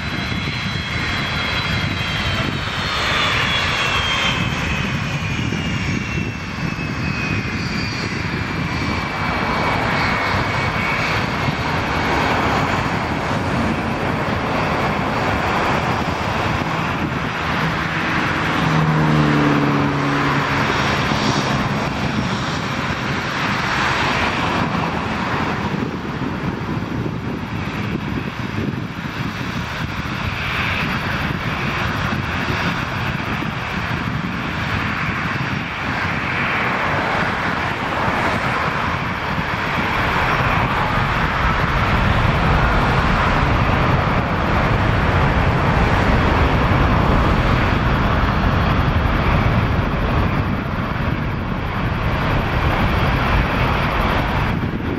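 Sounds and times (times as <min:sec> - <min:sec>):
jet engines roaring: 0:00.0 - 0:54.9
rising engine whine: 0:00.0 - 0:54.9.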